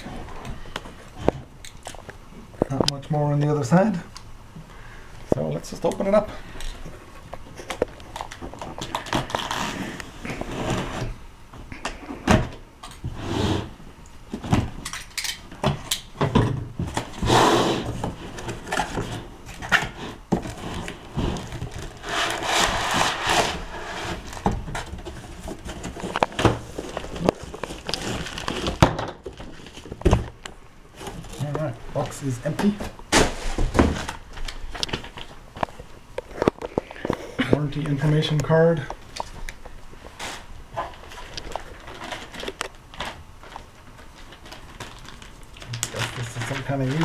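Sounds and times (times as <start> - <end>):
cardboard and wrapping rustling: 5.4 - 14.8, 16.2 - 47.0.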